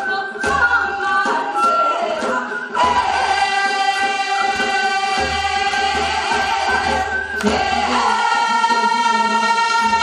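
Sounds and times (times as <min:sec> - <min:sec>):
group singing folk song in unison: 0:00.0 - 0:10.0.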